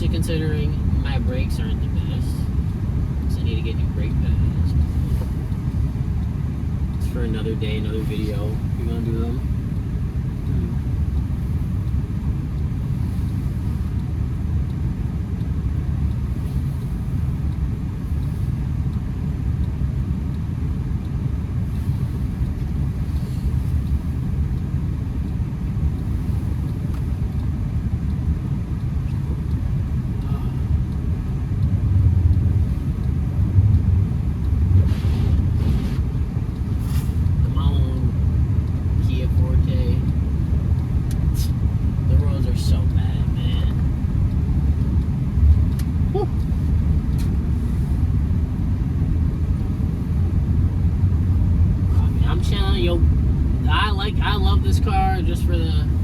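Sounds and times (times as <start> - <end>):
car cabin engine and tyre rumble: 0.0 - 56.0.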